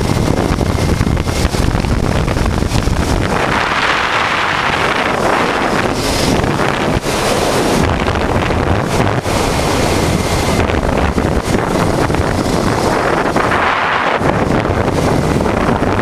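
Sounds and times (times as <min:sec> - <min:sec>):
motorcycle engine running: 0:00.0 - 0:16.0
wind buffeting on microphone: 0:00.0 - 0:16.0.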